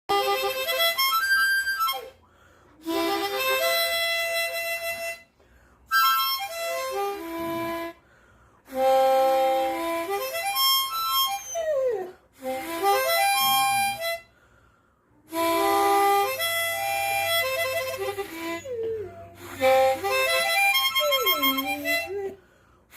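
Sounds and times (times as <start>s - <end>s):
harmonica playing: 0.1s - 14.5s, 15.2s - 22.5s.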